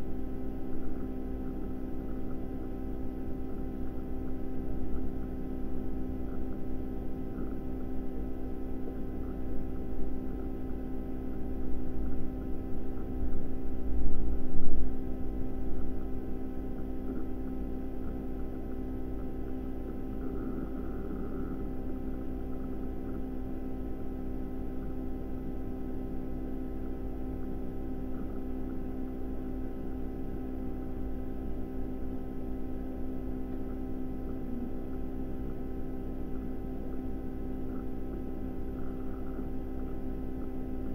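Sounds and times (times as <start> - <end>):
steady tonal hum: 0.0 - 40.9.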